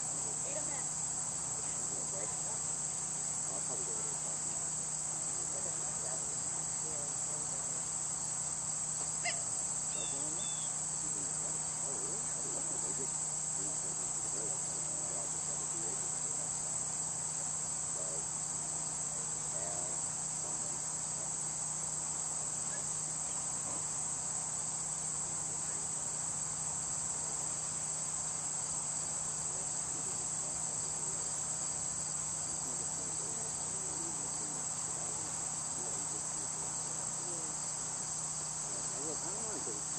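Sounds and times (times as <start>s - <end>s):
insects chirping chorus: 0.0s - 39.9s.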